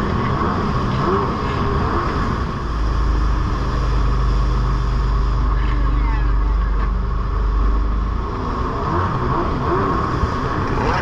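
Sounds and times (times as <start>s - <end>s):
jet ski engine running: 0.0s - 11.0s
water rushing past hull: 0.0s - 11.0s.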